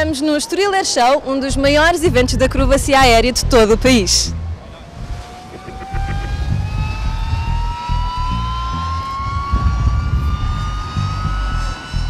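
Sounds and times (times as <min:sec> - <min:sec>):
wind buffeting microphone: 0:00.0 - 0:12.0
helicopter turbine whining: 0:01.2 - 0:12.0.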